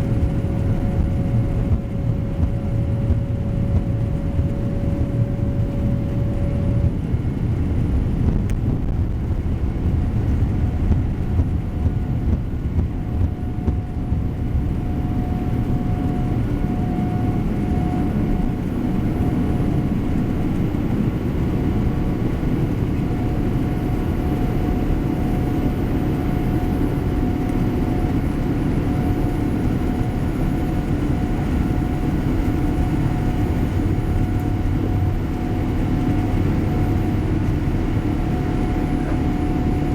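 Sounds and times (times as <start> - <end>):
airplane cabin engine rumble: 0.0 - 39.9
faint steady whine: 0.0 - 39.9.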